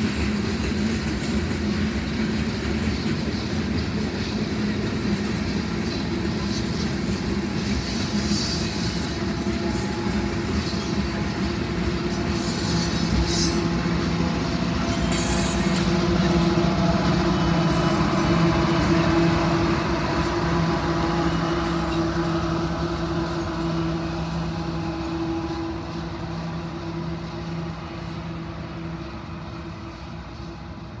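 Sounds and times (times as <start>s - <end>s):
diesel locomotive engine drone: 0.0s - 31.0s
rail rumble: 0.0s - 31.0s.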